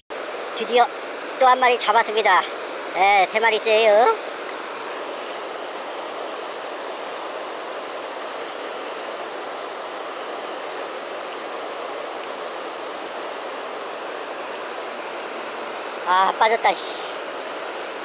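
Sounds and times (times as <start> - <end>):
river water pouring over weir: 0.1 - 18.0.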